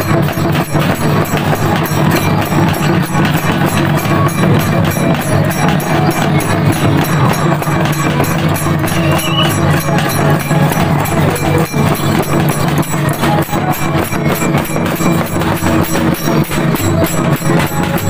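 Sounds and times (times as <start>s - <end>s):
barrel drums beating: 0.0s - 18.0s
small hand cymbals clashing: 0.0s - 18.0s.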